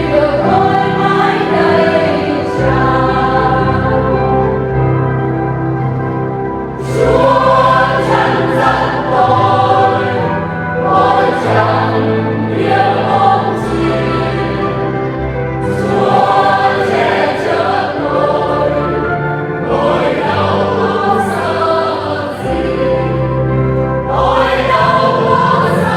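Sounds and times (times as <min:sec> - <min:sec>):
choir singing a hymn: 0:00.0 - 0:25.9
low held accompaniment notes: 0:00.0 - 0:25.9.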